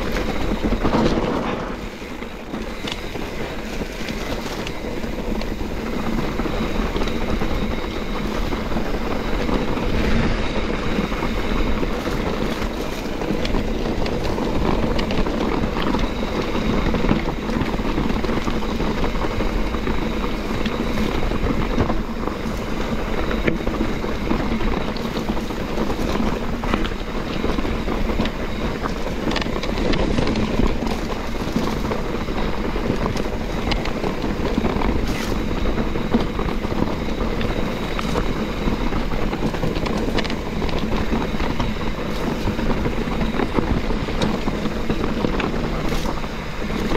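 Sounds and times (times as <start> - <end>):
bike rattling: 0.0 - 46.9
tyres crunching over loose rock: 0.0 - 46.9
wind on microphone: 0.0 - 46.9.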